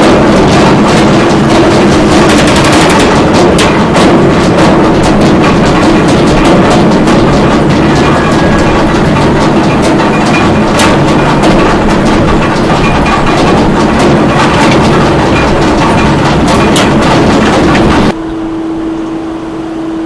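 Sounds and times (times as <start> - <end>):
machinery clattering: 0.0 - 18.2
motor hum: 0.0 - 20.0.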